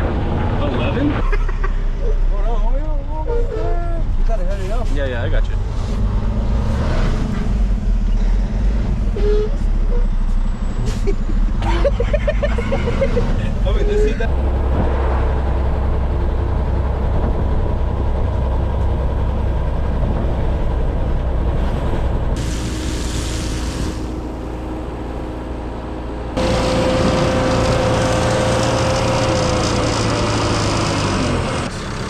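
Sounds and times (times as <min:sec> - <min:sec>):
heavy truck engine running: 0:04.0 - 0:32.0.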